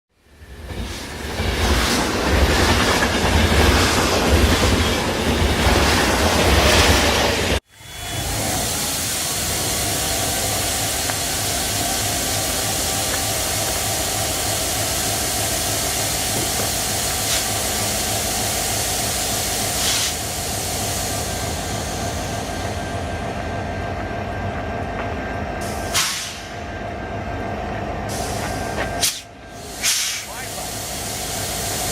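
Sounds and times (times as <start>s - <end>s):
train rumble and hiss: 0.2s - 31.9s.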